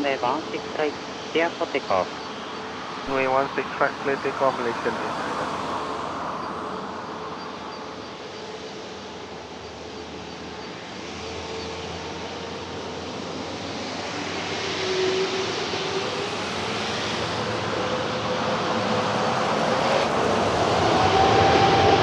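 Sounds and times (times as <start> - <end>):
jet engines roaring: 0.0 - 7.4, 8.0 - 22.0.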